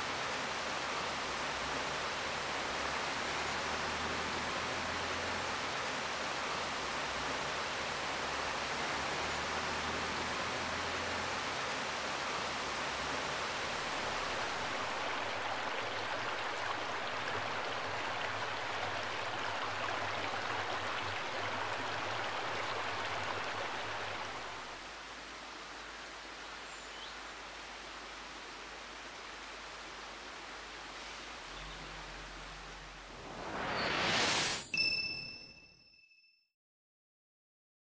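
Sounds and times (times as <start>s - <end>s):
water rushing over rocks: 0.0s - 34.4s.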